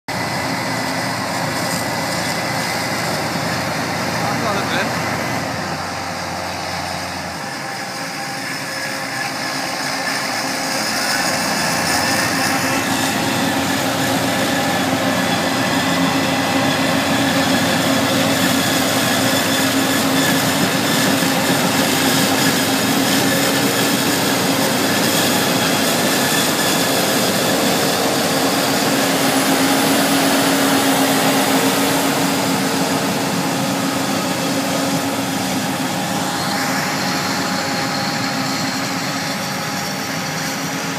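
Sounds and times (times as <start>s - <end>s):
heavy machinery noise: 0.1s - 40.9s.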